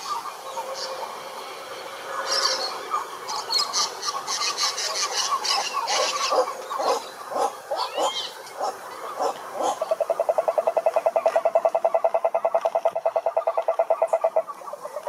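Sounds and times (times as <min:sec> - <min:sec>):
frogs croaking: 0:00.0 - 0:15.0.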